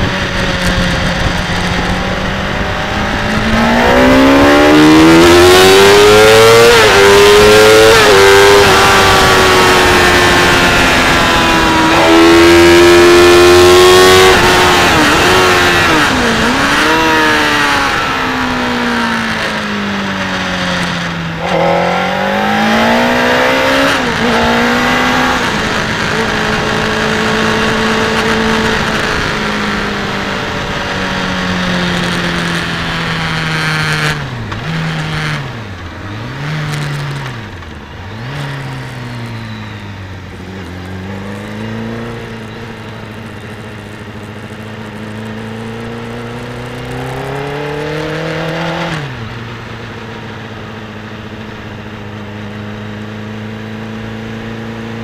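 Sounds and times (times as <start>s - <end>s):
race car engine revving: 0.0s - 49.7s.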